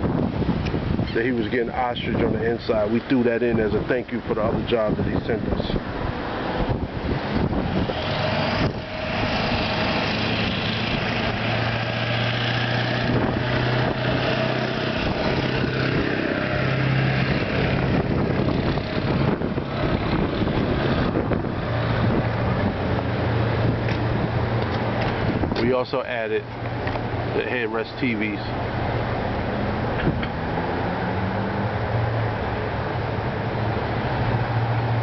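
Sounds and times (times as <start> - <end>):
noisy rush: 0.0 - 35.0
vehicle engine hum: 0.0 - 35.0.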